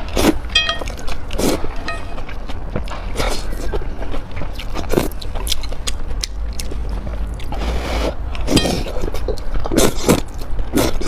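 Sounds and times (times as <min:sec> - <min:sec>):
chewing and mouth sounds: 0:00.0 - 0:11.0.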